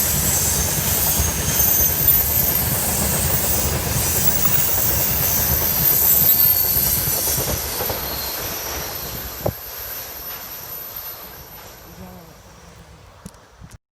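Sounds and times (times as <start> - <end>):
train wheels clattering on rails: 0.0 - 13.6.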